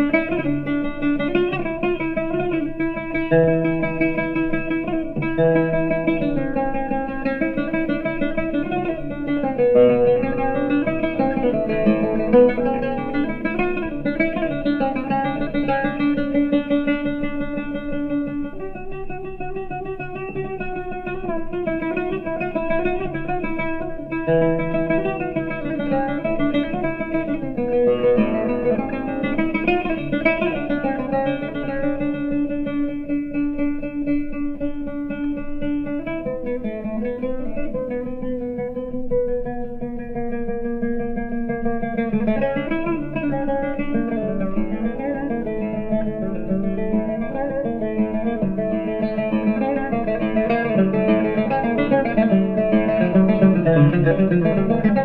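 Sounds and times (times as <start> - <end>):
solo oud plucked with plectrum: 0.0 - 55.0.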